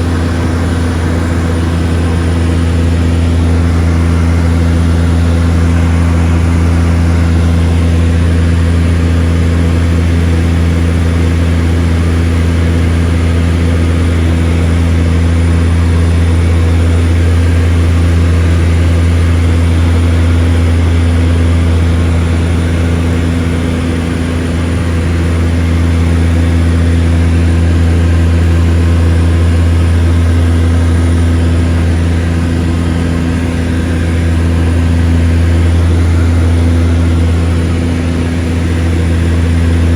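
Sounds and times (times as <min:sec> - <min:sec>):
seaplane engines droning: 0:00.0 - 0:39.9.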